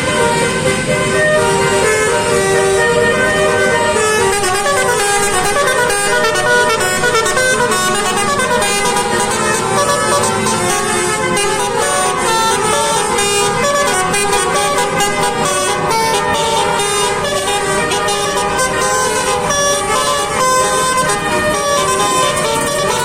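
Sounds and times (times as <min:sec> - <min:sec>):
multi-tone musical air horn: 0:00.0 - 0:23.0.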